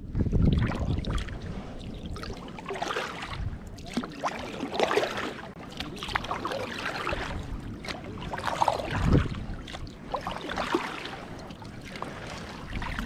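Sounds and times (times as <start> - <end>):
water splashing against kayak: 0.0 - 13.0.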